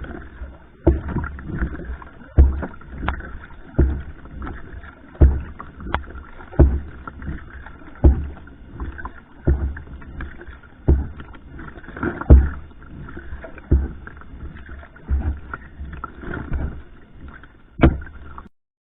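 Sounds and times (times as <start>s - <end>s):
paddle strokes thumping and splashing: 0.0s - 18.5s
water washing along hull: 0.0s - 18.5s.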